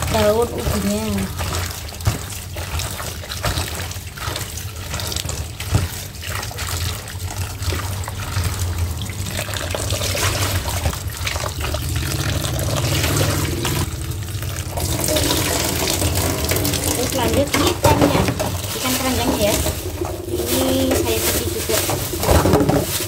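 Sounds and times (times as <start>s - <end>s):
hands swishing leaves in water: 0.0s - 23.0s
tap water running into bowl: 0.0s - 23.0s
water pouring into sink: 0.0s - 23.0s.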